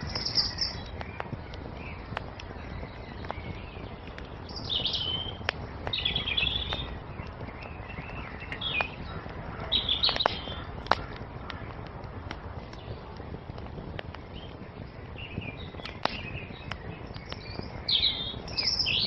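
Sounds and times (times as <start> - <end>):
songbirds chirping: 0.0 - 19.0
wood fire crackling and popping: 0.0 - 19.0.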